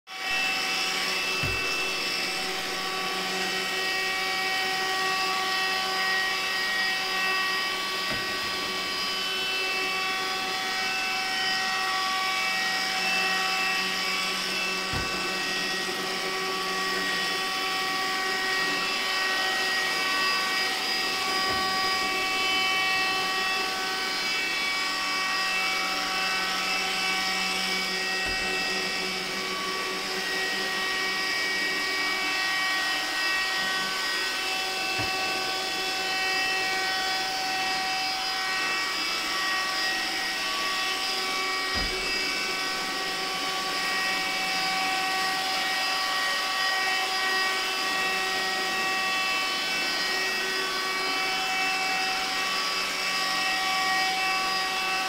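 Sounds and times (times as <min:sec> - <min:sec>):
robot vacuum running: 0:00.1 - 0:55.0.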